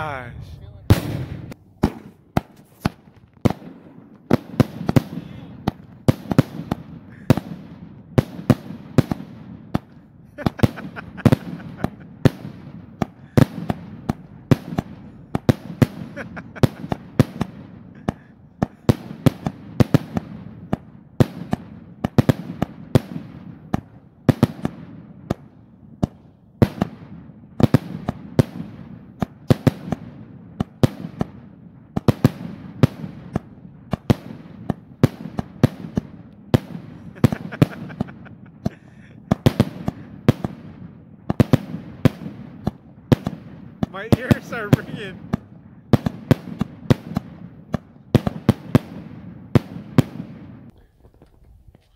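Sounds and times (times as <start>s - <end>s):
fireworks exploding: 0.0s - 51.9s.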